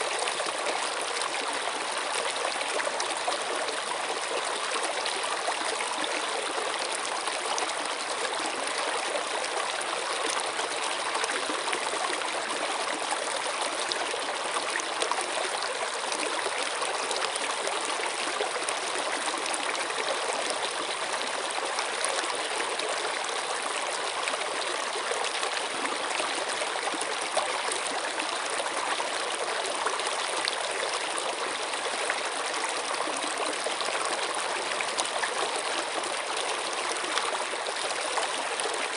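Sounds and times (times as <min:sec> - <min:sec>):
water splashes and trickles: 0:00.0 - 0:38.9.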